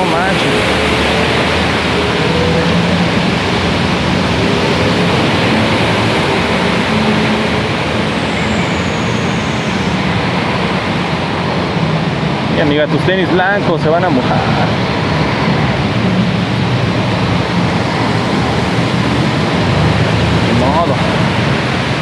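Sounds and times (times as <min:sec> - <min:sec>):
heavy rain hissing: 0:00.0 - 0:22.0
low engine hum: 0:00.0 - 0:22.0.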